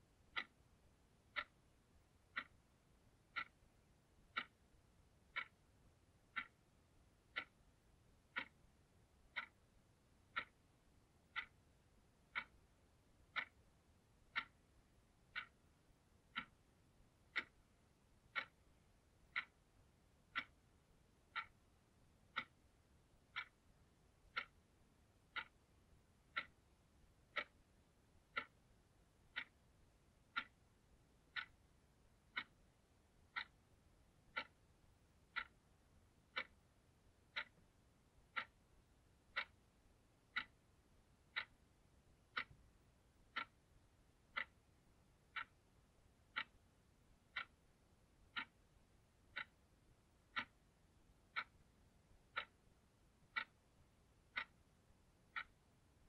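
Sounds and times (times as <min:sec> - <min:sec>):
alarm clock ticking: 0:00.0 - 0:56.0.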